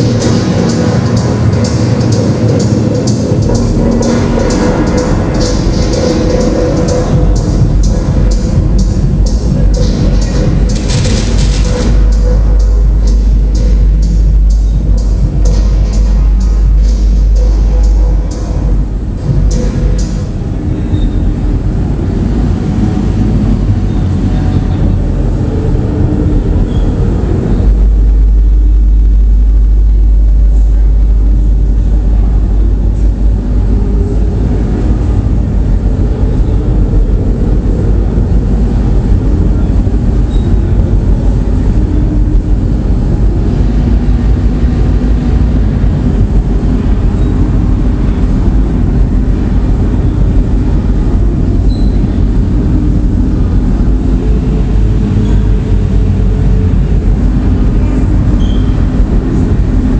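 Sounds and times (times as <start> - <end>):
heavy deep bass: 0.0 - 59.9
noise drone music: 0.0 - 59.9.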